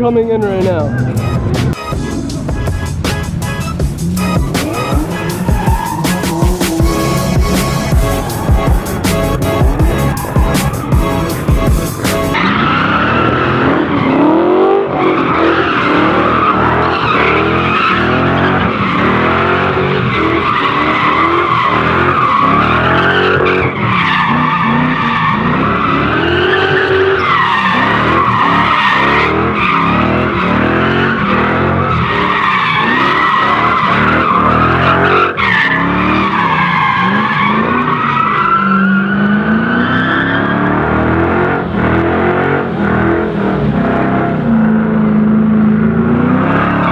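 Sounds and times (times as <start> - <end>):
engine revving: 0.0 - 46.9
tires squealing: 0.0 - 46.9.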